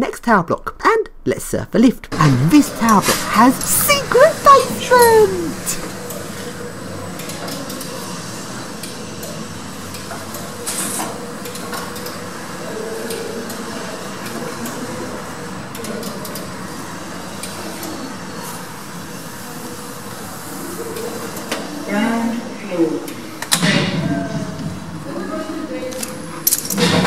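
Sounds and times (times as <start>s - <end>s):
lift running hum: 2.1s - 26.4s.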